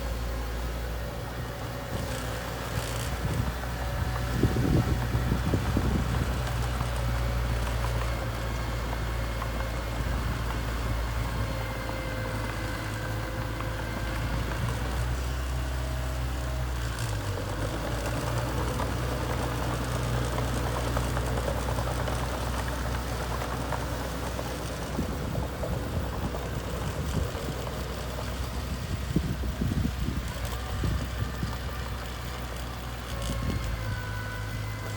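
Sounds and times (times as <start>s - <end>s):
mini bulldozer diesel engine running: 0.0s - 34.9s.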